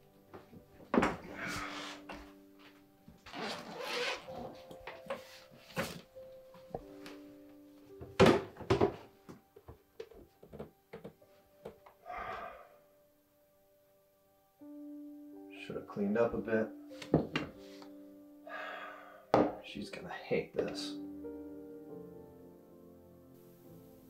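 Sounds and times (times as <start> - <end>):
faint music: 0.0 - 24.0.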